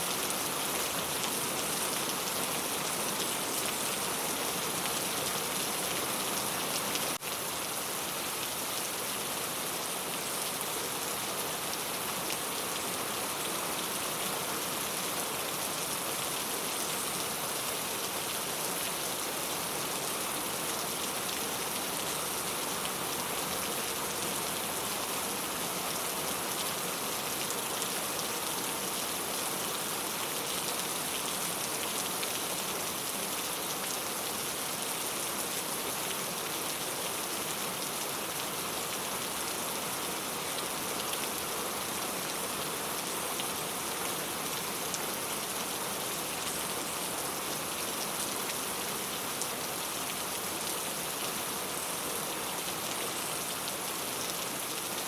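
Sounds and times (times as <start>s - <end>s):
rain drumming on a tile roof: 0.0s - 55.0s.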